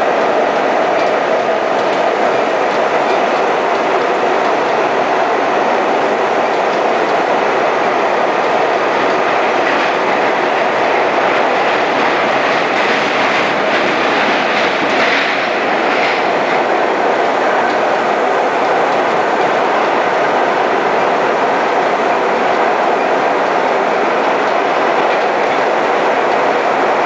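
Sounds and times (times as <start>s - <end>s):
subway wheels on rails: 0.0s - 27.0s.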